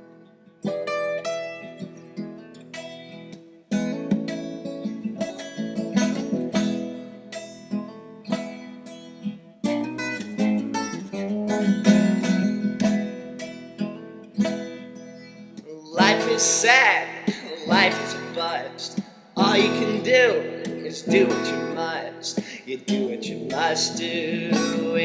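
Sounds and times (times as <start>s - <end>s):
acoustic guitar playing: 0.0s - 25.0s.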